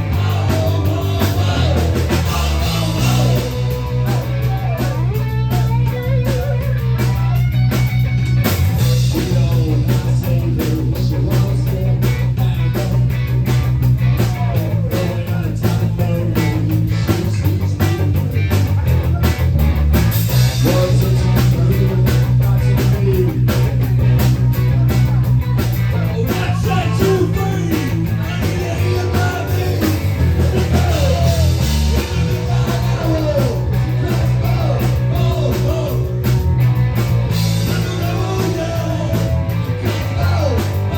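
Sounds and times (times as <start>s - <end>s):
loud rock song: 0.0s - 40.9s.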